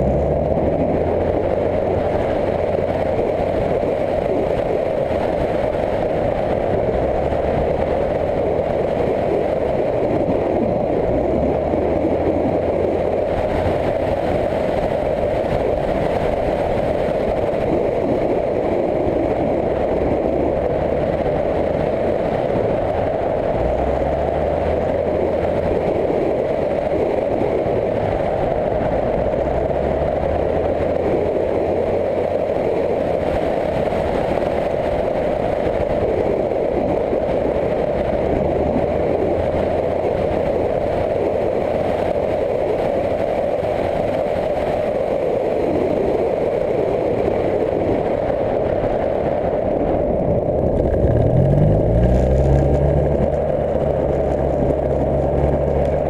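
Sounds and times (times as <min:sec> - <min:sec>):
motorcycle engine at speed: 0:00.0 - 0:56.0
wind noise: 0:00.0 - 0:56.0.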